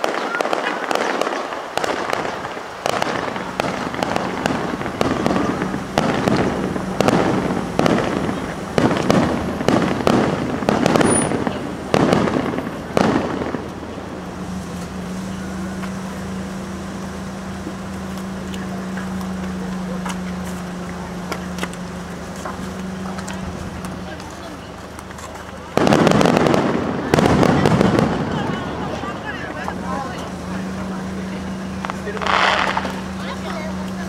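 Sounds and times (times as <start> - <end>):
fireworks booming: 0.0 - 34.0
fireworks crackle: 0.0 - 34.0.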